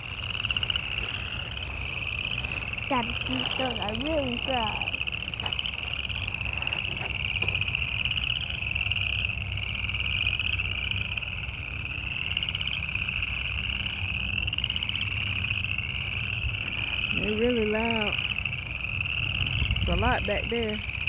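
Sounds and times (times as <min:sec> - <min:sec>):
frogs calling in chorus: 0:00.0 - 0:21.0.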